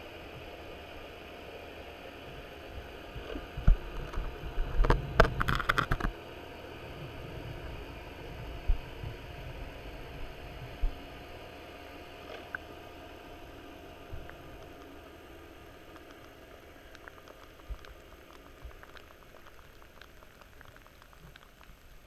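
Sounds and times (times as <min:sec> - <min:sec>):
underwater hum and hiss: 0:00.0 - 0:22.0.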